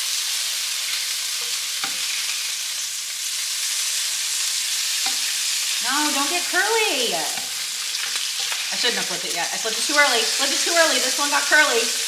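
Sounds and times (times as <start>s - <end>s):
bacon sizzling in a frying pan: 0.0s - 12.0s
spatula flipping bacon: 0.0s - 12.0s.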